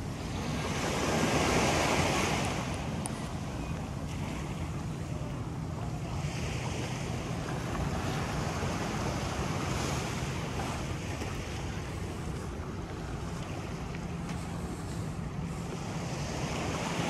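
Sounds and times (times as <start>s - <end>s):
small waves washing on beach: 0.0s - 17.0s.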